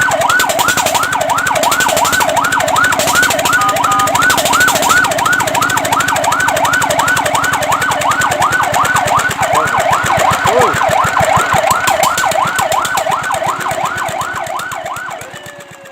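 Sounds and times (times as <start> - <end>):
fire truck siren yelping: 0.0 - 15.9.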